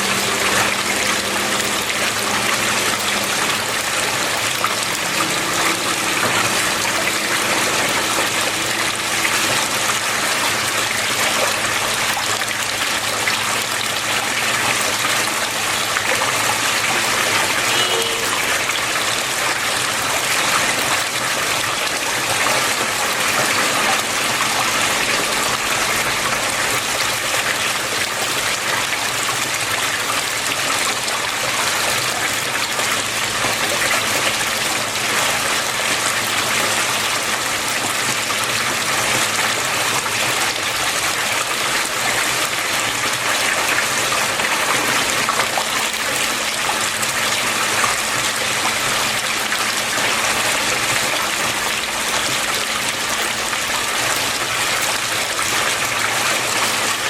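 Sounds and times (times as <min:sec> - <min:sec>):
water flowing: 0:00.0 - 0:57.0.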